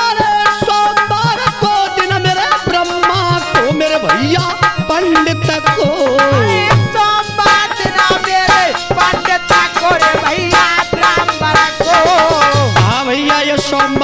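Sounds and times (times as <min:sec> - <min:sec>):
keyboard melody bending in pitch: 0:00.0 - 0:14.0
tabla-style drum rhythm: 0:00.0 - 0:14.0.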